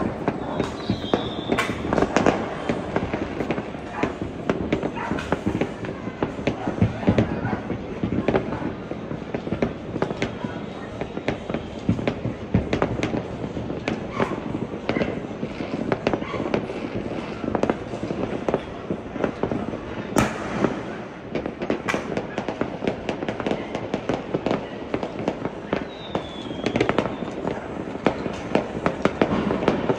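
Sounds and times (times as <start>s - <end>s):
fireworks bangs and crackles: 0.0s - 29.9s.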